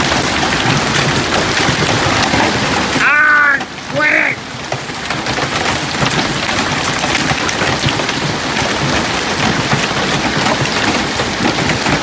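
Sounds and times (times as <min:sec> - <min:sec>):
hail denting car hood: 0:00.0 - 0:12.0
heavy hail clattering: 0:00.0 - 0:12.0.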